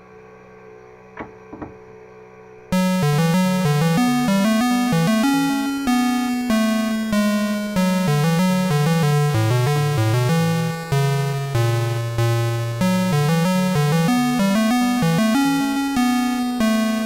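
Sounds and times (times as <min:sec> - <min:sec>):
chiptune music: 0:02.7 - 0:17.0.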